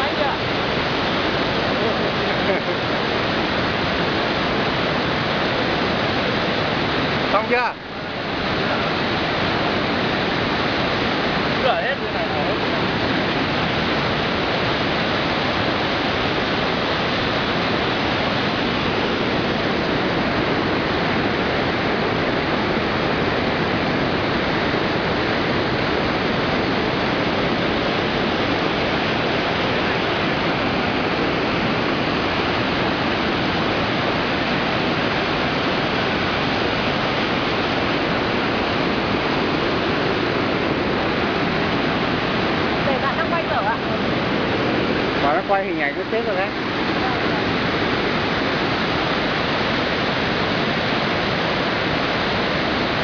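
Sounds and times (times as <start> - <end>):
water rushing through spillway: 0.0 - 53.0.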